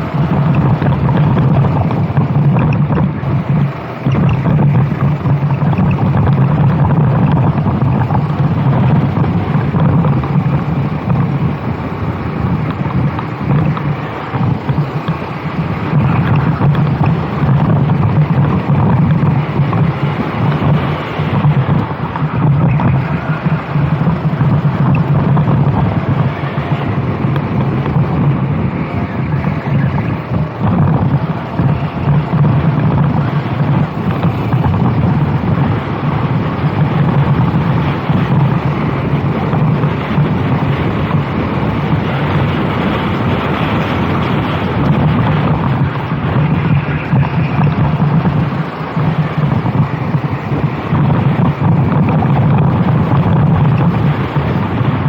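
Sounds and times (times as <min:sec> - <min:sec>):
go-kart engine droning: 0:00.0 - 0:55.0
wind buffeting microphone: 0:00.0 - 0:55.0.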